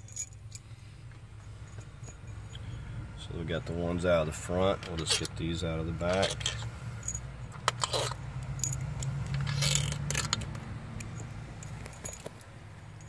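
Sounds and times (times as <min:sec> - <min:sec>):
metallic clinks of tools and bolts: 0:00.0 - 0:04.0, 0:04.6 - 0:13.0.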